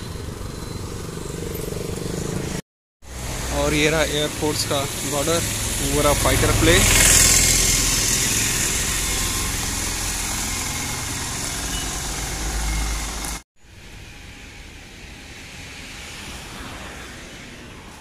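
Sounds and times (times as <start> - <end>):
vehicle engine rumble: 0.0 - 17.7
outdoor road noise: 0.0 - 18.0.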